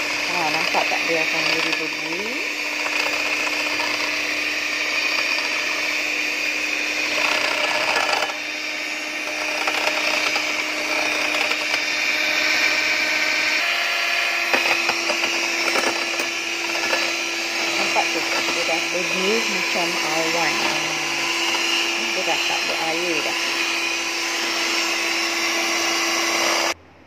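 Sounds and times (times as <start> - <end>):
mixer clicks: 0.0 - 13.0, 14.2 - 26.8
electric hand mixer running: 0.0 - 26.8.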